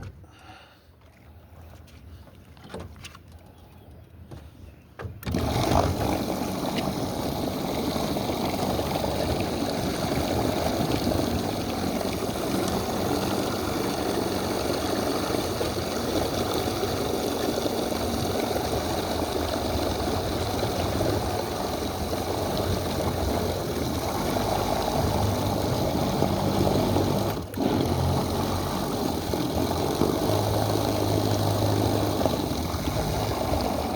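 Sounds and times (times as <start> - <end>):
outboard motor running: 5.1 - 33.9.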